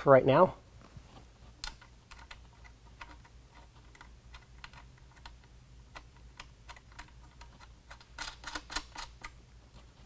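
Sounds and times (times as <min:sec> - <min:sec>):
metal nuts clicking and tapping: 0:01.6 - 0:09.9.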